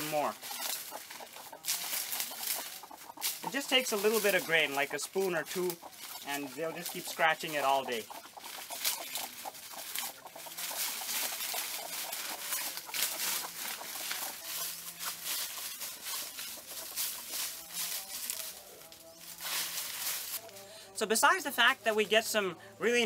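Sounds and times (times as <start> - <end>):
dry leaves rustling: 0.0 - 20.7
chickens clucking: 0.0 - 23.0.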